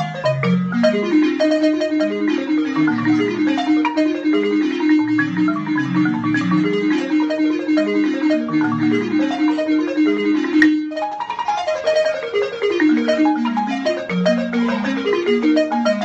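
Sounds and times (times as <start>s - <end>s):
balafon played fast: 0.0s - 16.0s.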